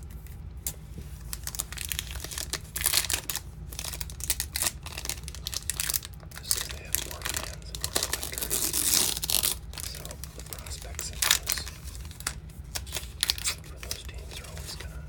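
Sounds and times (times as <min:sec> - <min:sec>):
steady low hum: 0:00.0 - 0:15.0
plastic wrapper crinkling and tearing: 0:00.1 - 0:15.0.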